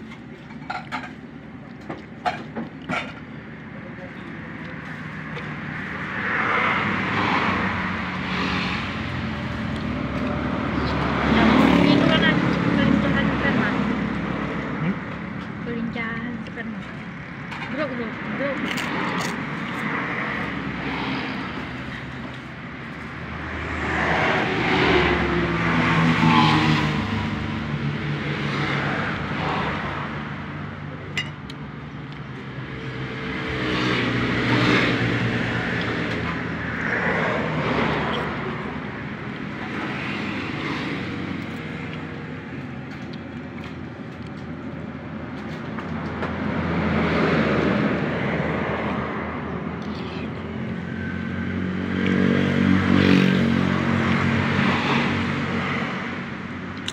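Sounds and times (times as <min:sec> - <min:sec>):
traffic rumble: 0:00.0 - 0:56.9
vehicles passing: 0:00.0 - 0:56.9.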